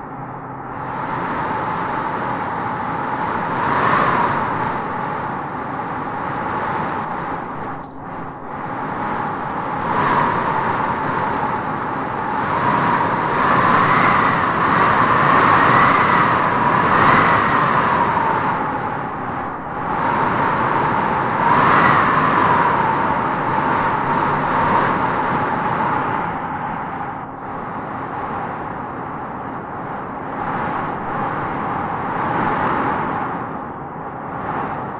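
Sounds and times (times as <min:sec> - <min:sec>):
strong wind howling: 0:00.0 - 0:34.9.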